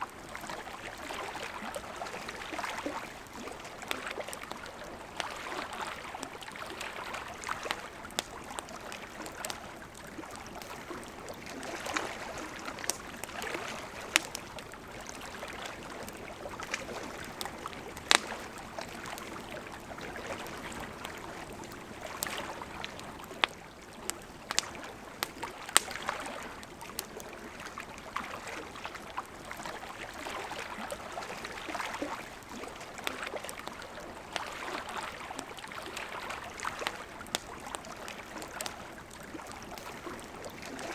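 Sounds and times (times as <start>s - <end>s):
river flowing: 0.0s - 40.9s
campfire crackling and popping: 0.1s - 40.9s.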